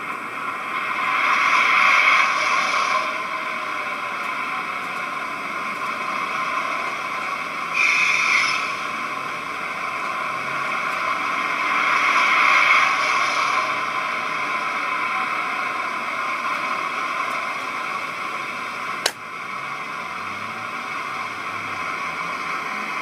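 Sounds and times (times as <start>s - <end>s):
model locomotive engine hum: 0.0s - 23.0s.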